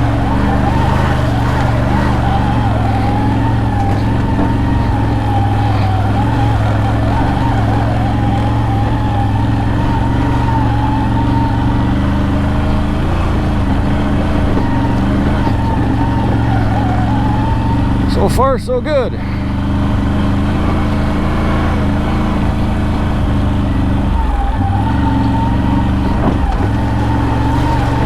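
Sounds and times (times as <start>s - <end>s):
atv engine running: 0.0s - 28.0s
engine whine: 0.0s - 28.0s.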